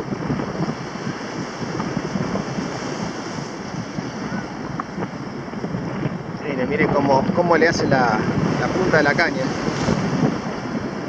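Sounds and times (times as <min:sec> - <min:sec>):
gusty wind on microphone: 0:00.0 - 0:11.0
waves breaking against rocks: 0:00.0 - 0:11.0.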